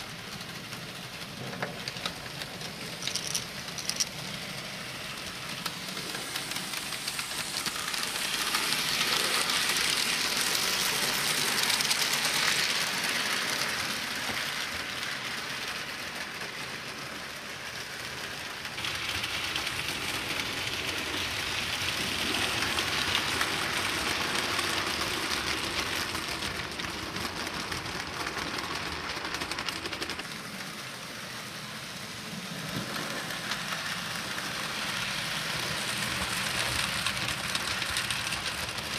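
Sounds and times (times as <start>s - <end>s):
model train wheels rattling: 0.0s - 38.9s.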